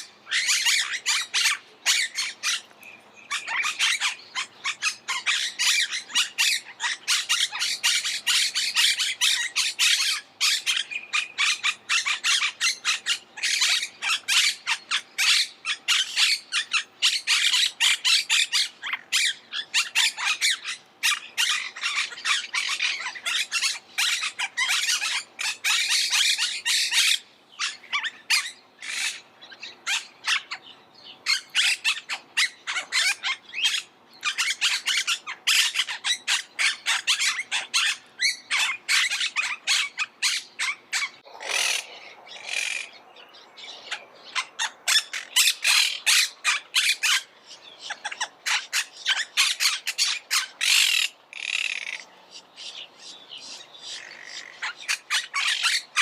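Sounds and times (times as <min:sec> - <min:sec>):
parakeets squawking and chattering: 0:00.0 - 0:56.0.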